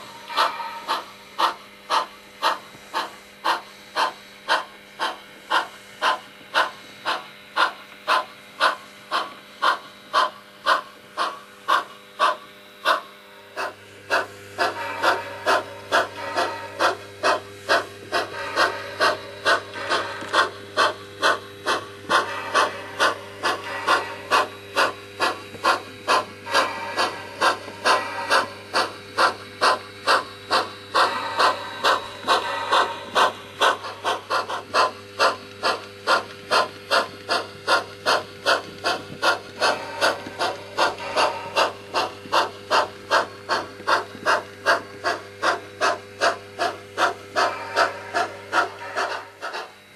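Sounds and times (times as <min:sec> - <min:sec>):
steady low hum: 0:00.0 - 0:49.9
steam exhaust chuffing from speaker: 0:00.0 - 0:49.9.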